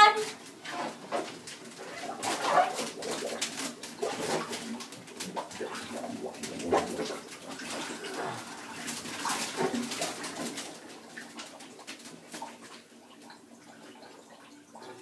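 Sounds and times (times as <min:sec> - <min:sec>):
water sloshing in a bathtub: 0:00.0 - 0:15.0.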